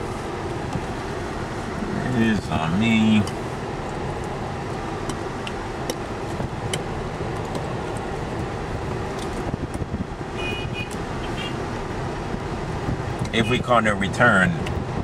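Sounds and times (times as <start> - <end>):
vehicle road noise rumble: 0.0 - 15.0.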